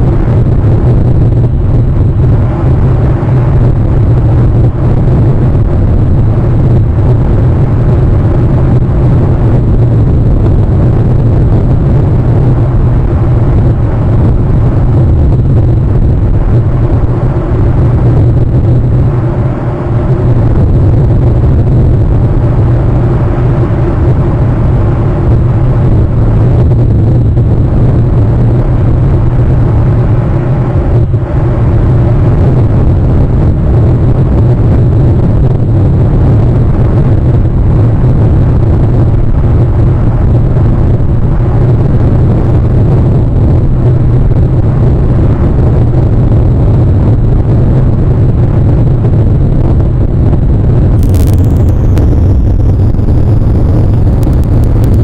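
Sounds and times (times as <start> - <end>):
loud low rumble: 0.0 - 55.0.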